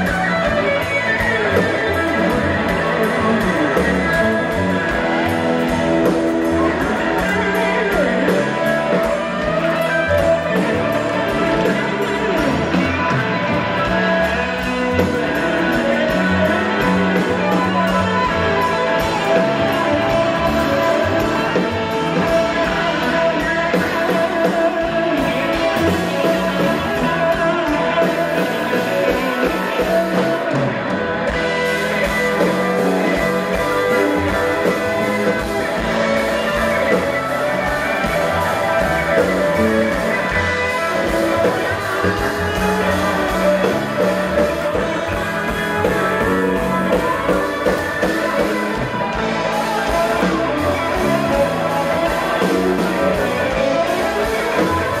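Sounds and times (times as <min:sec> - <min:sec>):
electric guitar: 0:00.0 - 0:55.0
live blues-rock band: 0:00.0 - 0:55.0
organ chords: 0:00.0 - 0:55.0.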